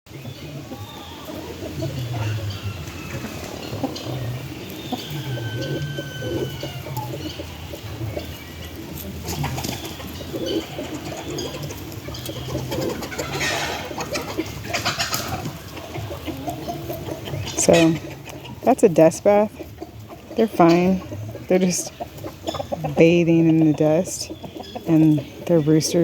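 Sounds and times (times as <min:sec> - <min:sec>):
hens clucking softly: 0:00.2 - 0:26.0.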